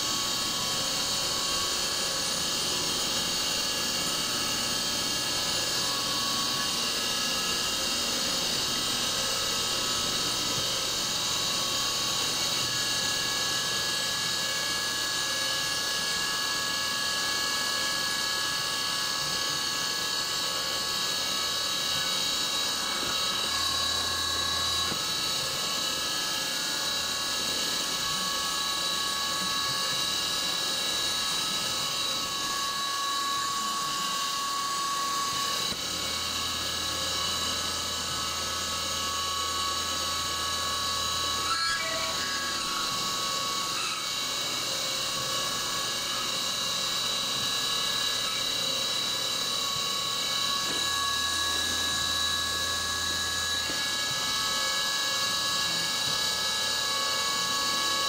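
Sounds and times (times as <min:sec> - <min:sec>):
milling machine cutting steel: 0:00.0 - 0:58.0.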